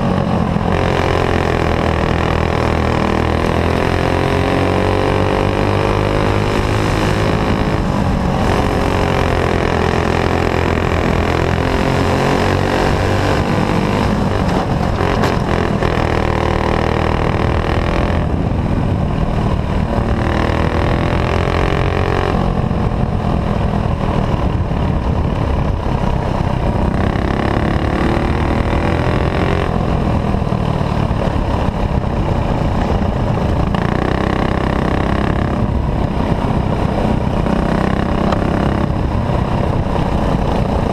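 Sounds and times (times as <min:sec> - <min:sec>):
kart engine racing: 0:00.0 - 0:40.9.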